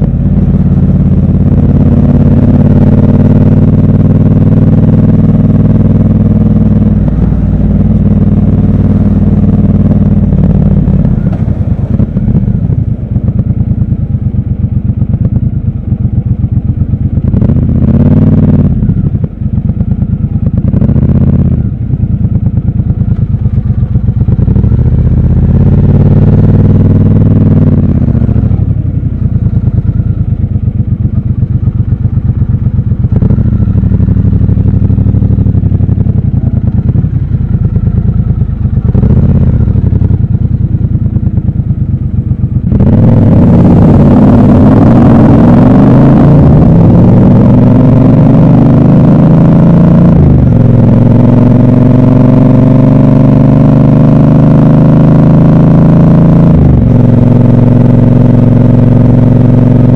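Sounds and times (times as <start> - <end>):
city traffic: 0.0 - 59.9
motorcycle engine revving: 0.0 - 59.9.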